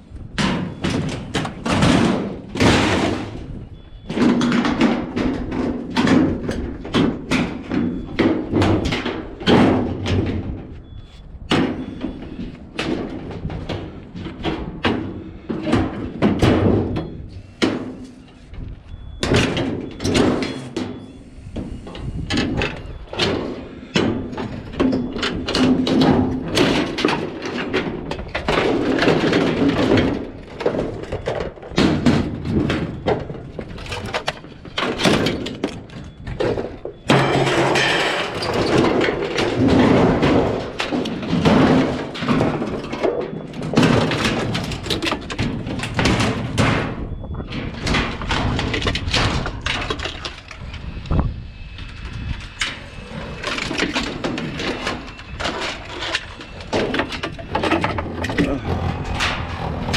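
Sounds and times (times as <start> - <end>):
objects knocking and clattering: 0.3 - 18.0, 22.3 - 50.6, 53.4 - 59.9.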